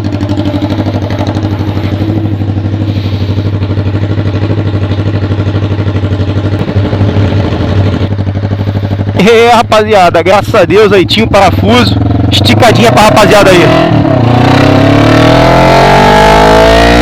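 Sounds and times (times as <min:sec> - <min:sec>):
motorcycle engine idling: 0:00.0 - 0:14.3.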